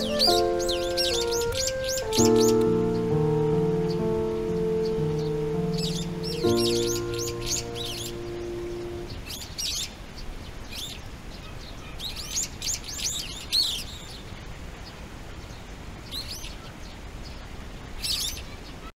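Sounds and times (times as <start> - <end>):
songbird chirping: 0.0 - 18.9.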